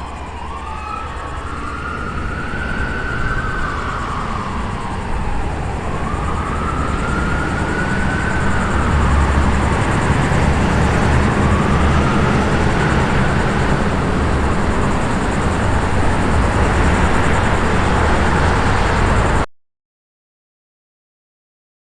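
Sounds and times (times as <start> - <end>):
emergency siren wailing: 0.0 - 19.5
road noise: 0.0 - 19.5
vehicle engine rumble: 0.0 - 19.5.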